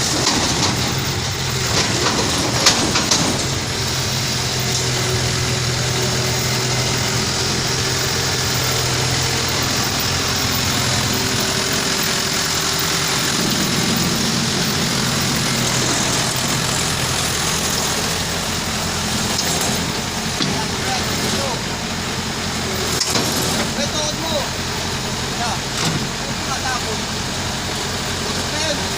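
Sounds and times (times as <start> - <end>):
backhoe engine running: 0.0 - 28.9.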